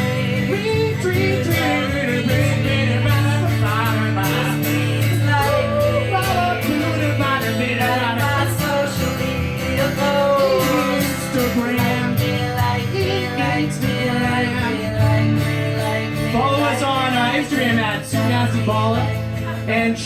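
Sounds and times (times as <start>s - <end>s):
comedy song with singing: 0.0s - 20.0s.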